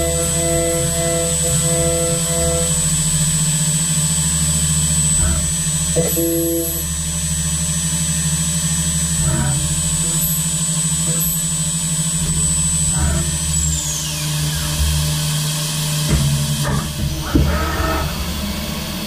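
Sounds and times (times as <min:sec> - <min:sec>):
machine low hum: 0:00.0 - 0:19.0
milling spindle high whine: 0:00.0 - 0:19.0.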